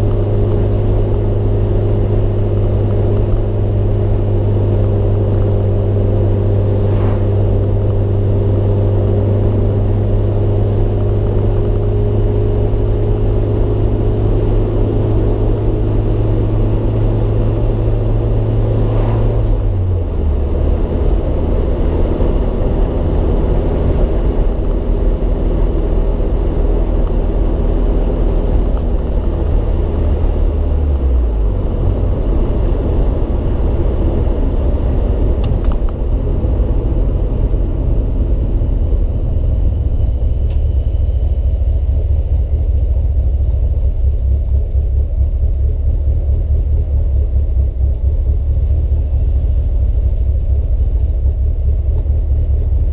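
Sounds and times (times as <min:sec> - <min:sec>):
car engine running: 0:00.0 - 0:52.9
road noise: 0:00.0 - 0:52.9.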